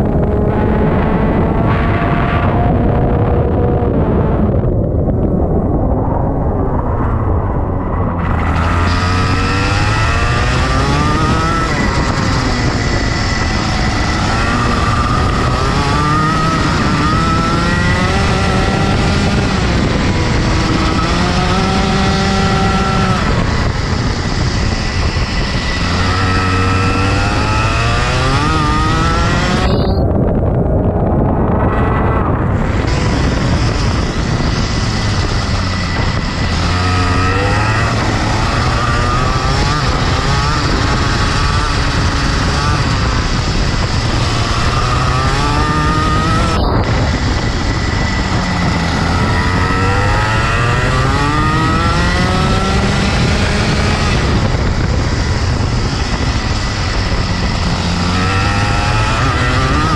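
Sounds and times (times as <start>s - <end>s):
kart engine revving: 8.0s - 30.0s, 31.7s - 59.9s.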